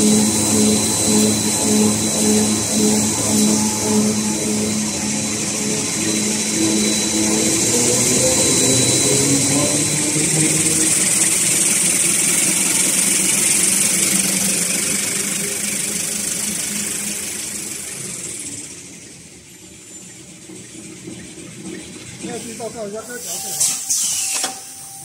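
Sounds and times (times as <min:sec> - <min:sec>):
machine hissing: 0:00.0 - 0:18.9, 0:21.4 - 0:25.0
low mechanical hum of rollers: 0:00.0 - 0:25.0.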